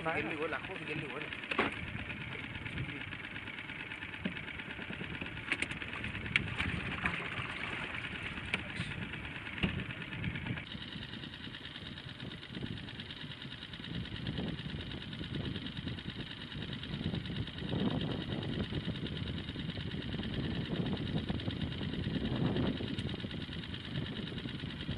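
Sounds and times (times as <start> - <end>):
outboard motor idling: 0.0 - 24.9.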